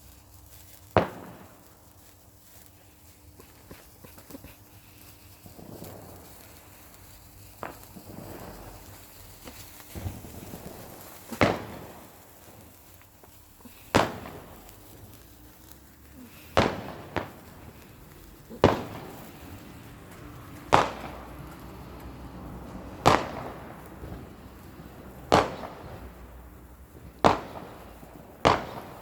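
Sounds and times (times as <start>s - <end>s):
fireworks bangs with echo: 0.0s - 29.0s.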